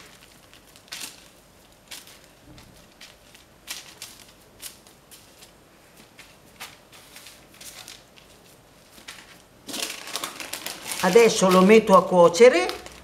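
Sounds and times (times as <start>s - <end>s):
baking paper crinkling: 0.0s - 13.0s.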